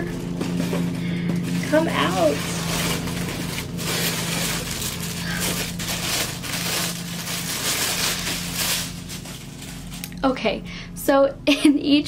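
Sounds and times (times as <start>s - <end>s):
paper packaging rustling: 0.0s - 10.2s.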